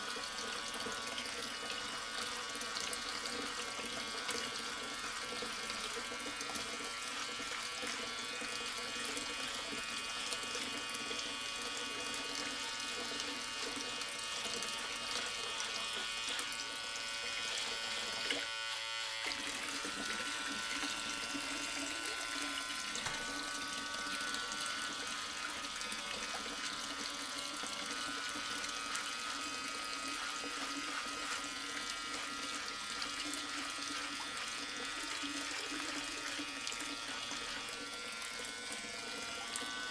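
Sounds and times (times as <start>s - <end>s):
small electric motor whirring: 0.0s - 39.9s
water running: 0.0s - 39.9s.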